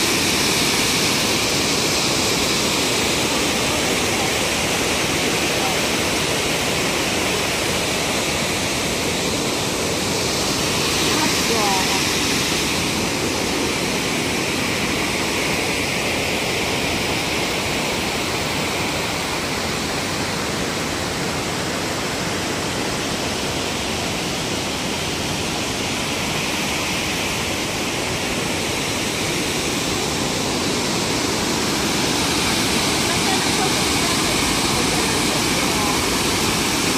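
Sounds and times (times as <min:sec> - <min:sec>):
water rushing over weir: 0:00.0 - 0:36.9.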